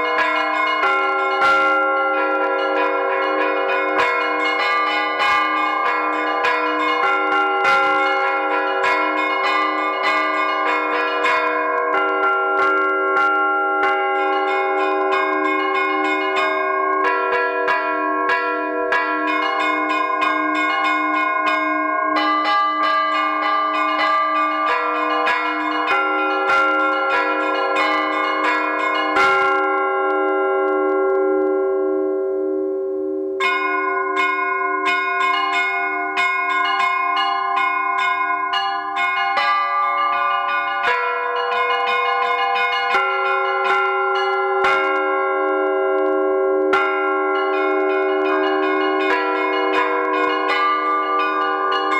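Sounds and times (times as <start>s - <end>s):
small bells chiming fast: 0.0s - 32.0s, 33.4s - 51.9s
lower bell striking: 0.0s - 51.9s.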